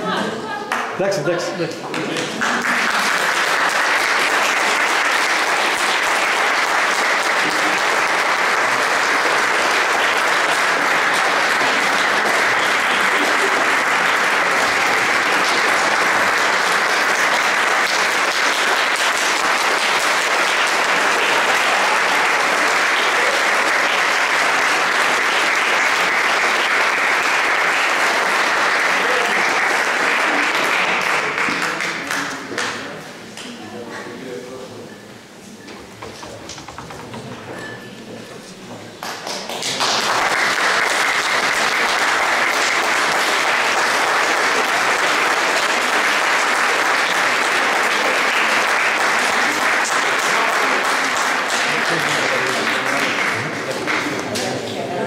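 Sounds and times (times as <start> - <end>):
audience applauding: 1.8 - 32.9, 36.0 - 37.8, 38.4 - 54.8.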